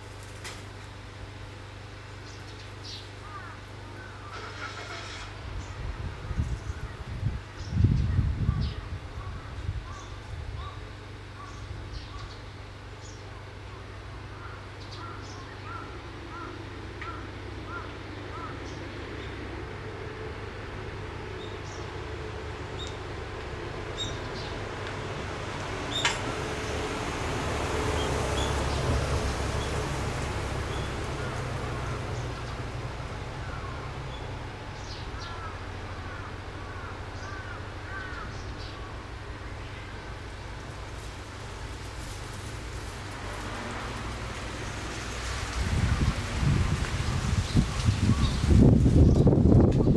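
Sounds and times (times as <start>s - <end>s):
low background hum: 0.0s - 49.9s
birds calling: 1.7s - 20.1s, 20.8s - 49.4s.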